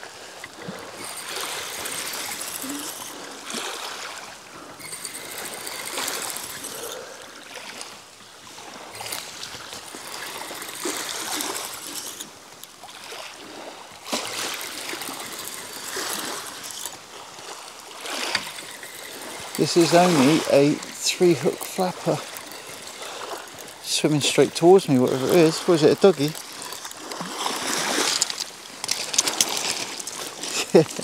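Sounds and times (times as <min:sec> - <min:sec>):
waves washing over shingle: 0:00.0 - 0:31.0.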